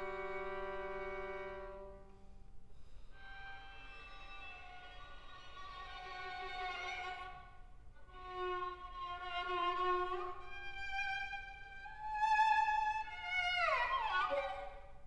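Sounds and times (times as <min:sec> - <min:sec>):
solo violin bowed notes: 0:00.0 - 0:02.2, 0:03.2 - 0:15.0.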